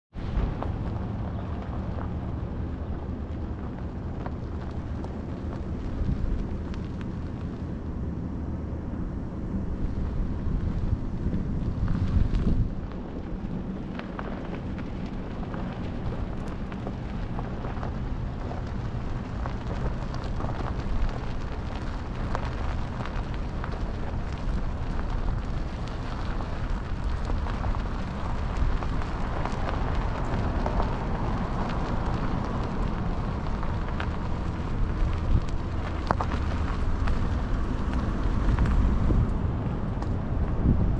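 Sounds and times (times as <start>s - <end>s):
road and wind noise: 0.0s - 40.9s
car driving rumble: 0.1s - 40.9s.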